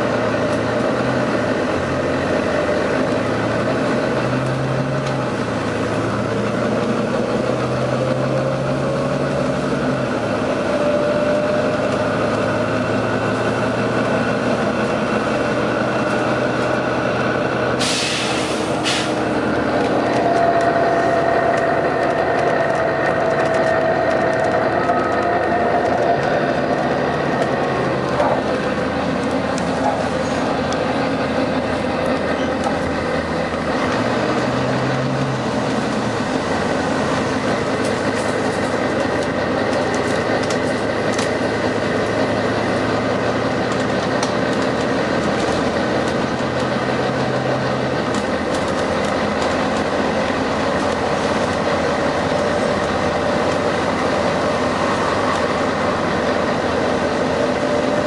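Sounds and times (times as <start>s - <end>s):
bus diesel engine drone: 0.0s - 58.0s
road noise: 0.0s - 58.0s.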